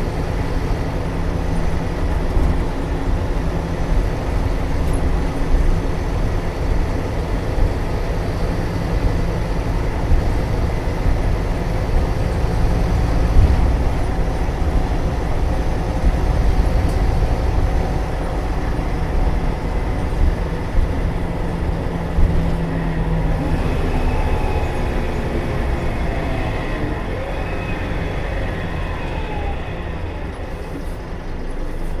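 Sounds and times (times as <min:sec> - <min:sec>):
bus engine hum: 0:00.0 - 0:32.0.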